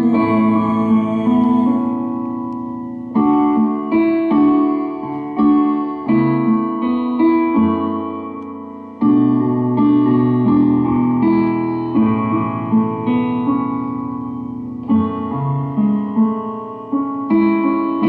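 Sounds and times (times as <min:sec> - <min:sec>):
instrumental ballad chords: 0:00.0 - 0:18.0.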